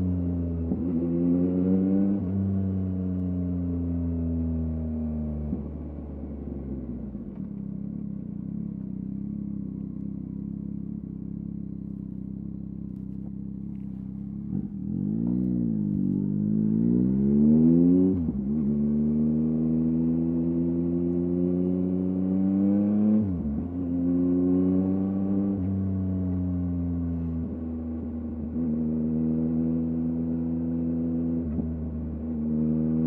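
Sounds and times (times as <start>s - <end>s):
motorcycle engine shifting gears: 5.4s - 33.0s.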